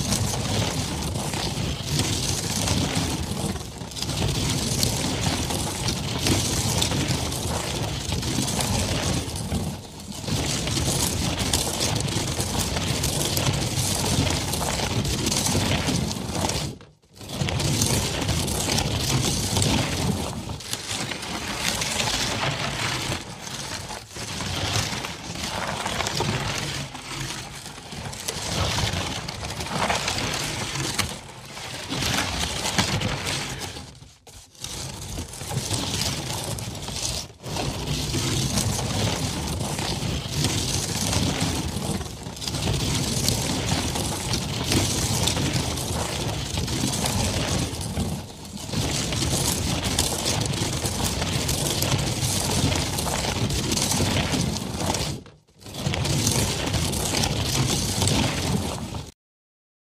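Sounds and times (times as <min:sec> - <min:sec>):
wheels crunching over dirt: 0:00.0 - 0:33.9, 0:34.6 - 0:55.2.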